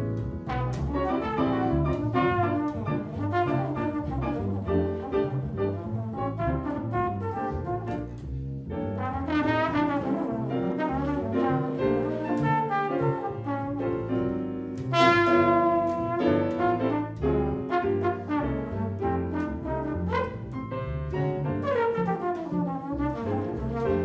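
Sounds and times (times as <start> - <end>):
jazz trombone soloing: 0.0 - 24.0
piano: 0.0 - 24.0
upright bass: 0.0 - 24.0.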